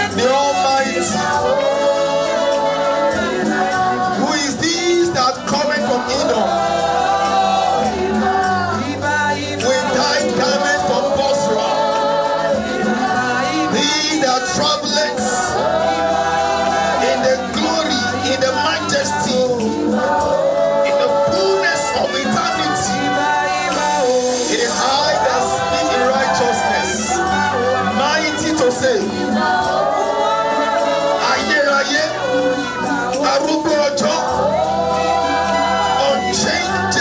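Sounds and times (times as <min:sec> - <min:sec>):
bass accompaniment: 0:00.0 - 0:37.0
choir singing: 0:00.0 - 0:37.0.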